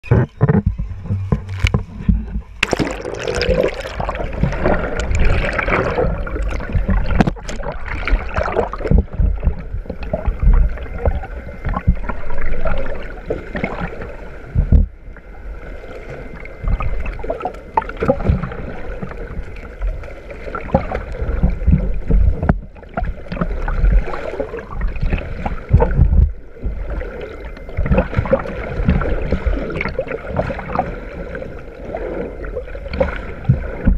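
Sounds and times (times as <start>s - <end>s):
underwater water rushing and gurgling: 0.0s - 33.9s
water splashes: 0.0s - 33.9s.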